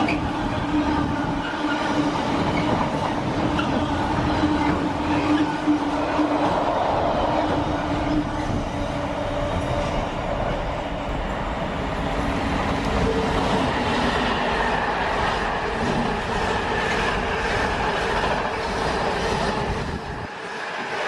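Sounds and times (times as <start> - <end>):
wheels whining: 0.0 - 20.3
freight train rumbling over rails: 0.0 - 21.0.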